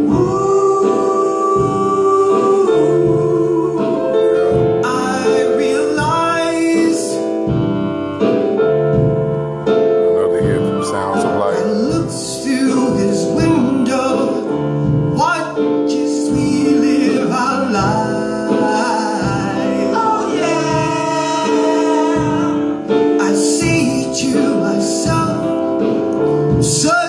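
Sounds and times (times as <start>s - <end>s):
gospel group singing: 0.0s - 7.4s, 10.8s - 27.0s
piano accompaniment: 0.0s - 27.0s.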